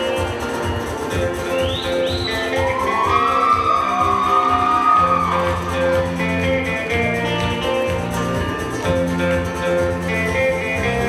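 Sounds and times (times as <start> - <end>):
electric bass: 0.0 - 11.0
ukuleles and guitars strummed: 0.0 - 11.0.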